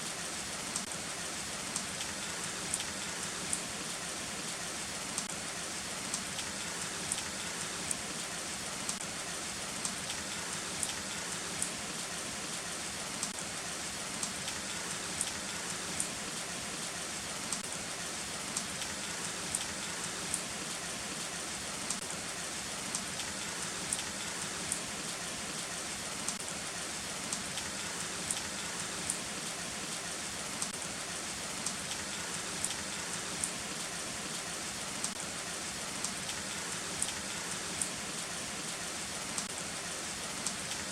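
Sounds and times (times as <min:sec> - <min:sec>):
heavy rain falling: 0:00.0 - 0:40.9
raindrops ticking close by: 0:00.1 - 0:40.9.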